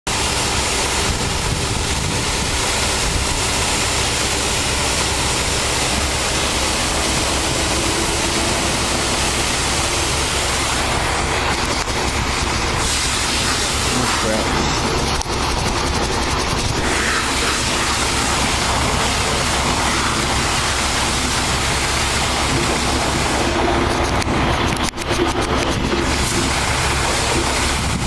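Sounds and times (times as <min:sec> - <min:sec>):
low hum: 0:00.1 - 0:28.0
pressure washer spraying water: 0:00.1 - 0:28.0.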